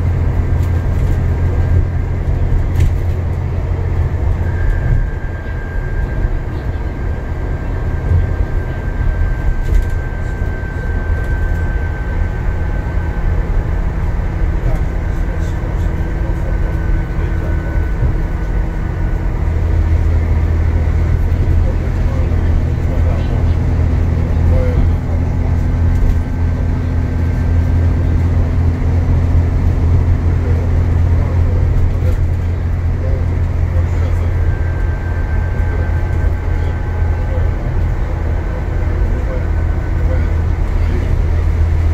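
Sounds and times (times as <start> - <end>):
bus engine and road rumble: 0.0 - 41.9
thin high whine: 2.8 - 41.9.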